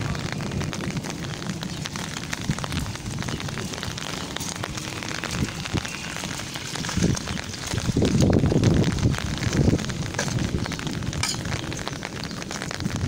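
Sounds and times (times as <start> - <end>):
rain on concrete and grass: 0.0 - 13.0.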